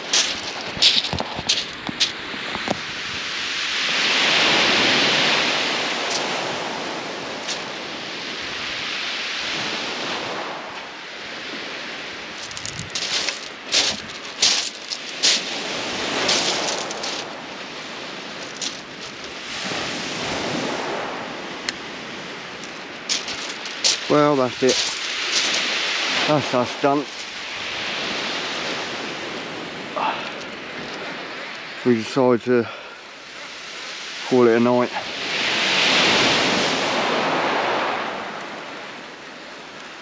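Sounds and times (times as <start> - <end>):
waves breaking on shingle: 0.0 - 31.8, 32.6 - 39.1.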